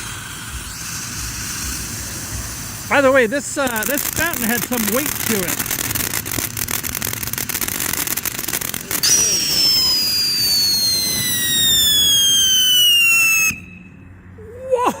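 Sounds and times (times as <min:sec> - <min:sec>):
firework fountain crackling: 0:00.0 - 0:13.9
falling firework whistle: 0:00.0 - 0:14.0.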